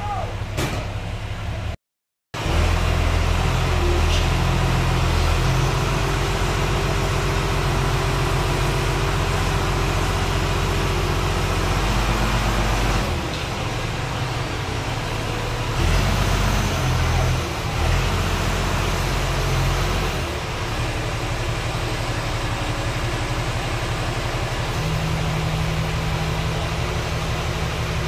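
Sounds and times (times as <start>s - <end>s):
wheel loader diesel engine: 0.0s - 1.8s, 2.4s - 28.0s.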